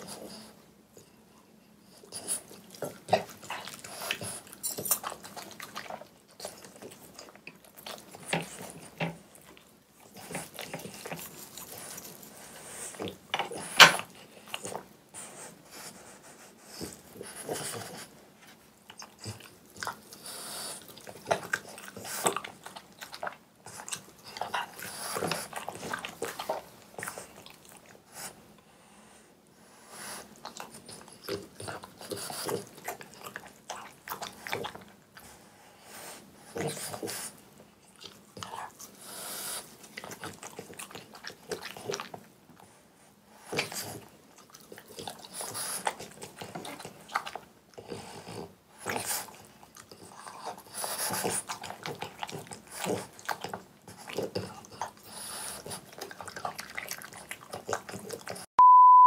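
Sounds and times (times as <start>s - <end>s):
dog chewing and lip-smacking: 0.0s - 28.7s, 29.6s - 58.5s.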